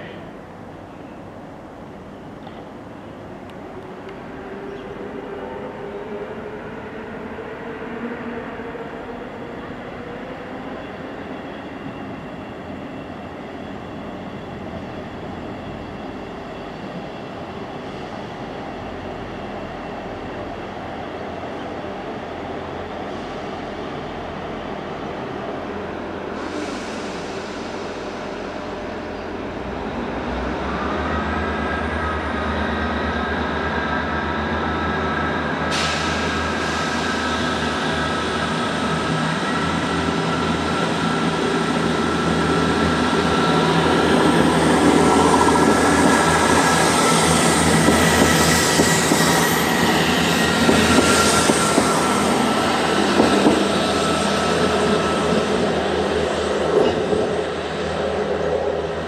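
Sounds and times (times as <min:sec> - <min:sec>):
diesel train engines whining: 0:00.0 - 0:59.0.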